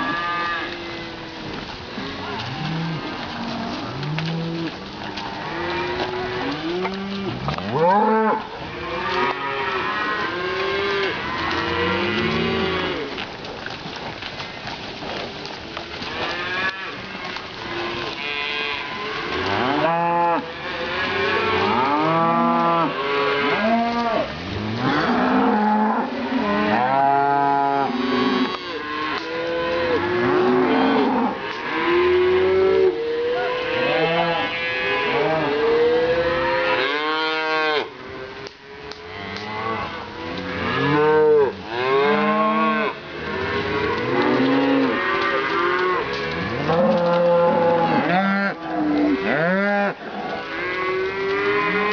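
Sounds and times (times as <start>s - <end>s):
cattle mooing: 0.0s - 1.3s, 1.9s - 13.2s, 16.0s - 37.9s, 38.8s - 51.9s.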